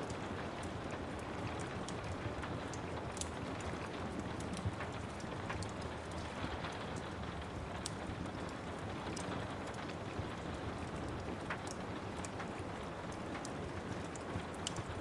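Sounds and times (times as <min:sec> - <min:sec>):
fire crackling and popping: 0:00.0 - 0:15.0
steady rain: 0:00.0 - 0:15.0.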